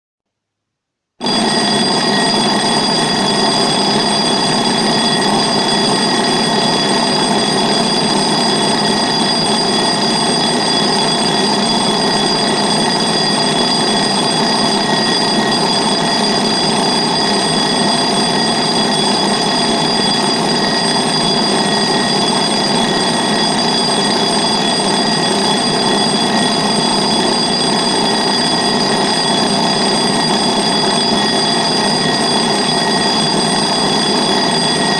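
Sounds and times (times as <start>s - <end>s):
alarm clock ringing: 1.2s - 34.9s.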